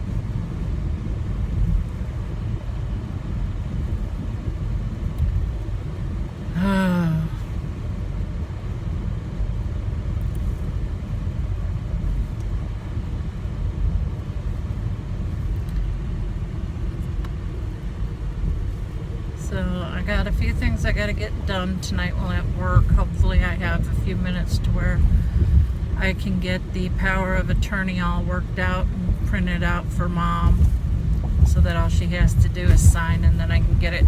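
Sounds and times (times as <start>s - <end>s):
car driving rumble inside cabin: 0.0s - 34.0s.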